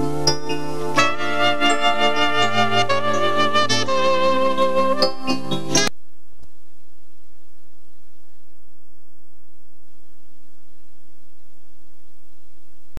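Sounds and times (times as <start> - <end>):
electrical hum with low buzz: 0.0 - 13.0.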